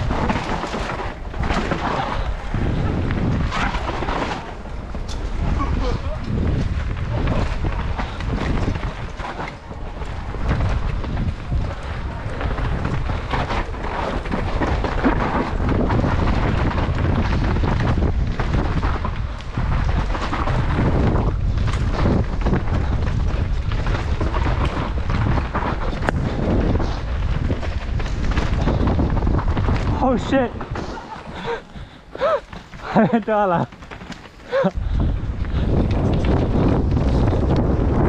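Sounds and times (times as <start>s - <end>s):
bike knocks and rattles: 0.0s - 38.0s
bike tyres rumbling on trail: 0.0s - 38.0s
wind buffeting microphone: 0.0s - 38.0s.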